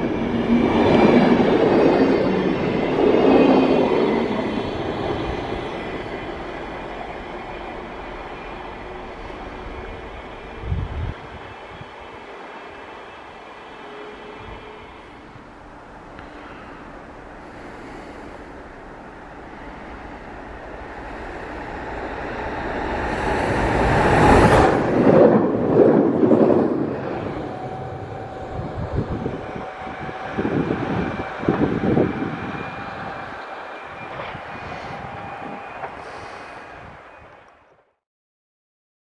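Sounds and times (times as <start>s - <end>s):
train rumble: 0.0s - 37.8s.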